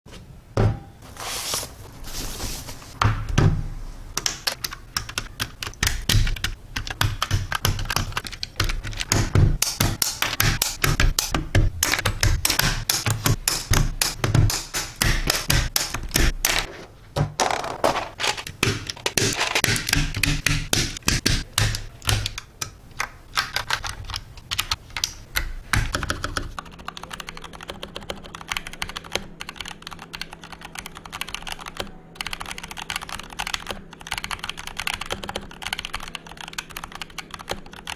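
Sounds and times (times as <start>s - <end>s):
mechanical keyboard keys clacking: 4.2s - 16.7s, 18.2s - 37.9s.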